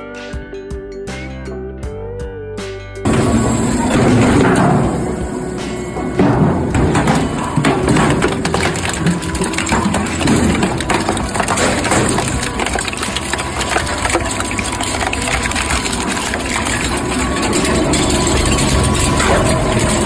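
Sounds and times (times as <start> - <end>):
shredder machine drone: 3.0 - 20.0
sheet metal crunching: 3.1 - 20.0.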